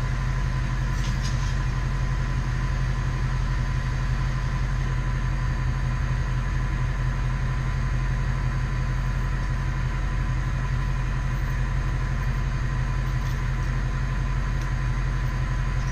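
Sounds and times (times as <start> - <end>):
truck engine running: 0.0 - 15.9.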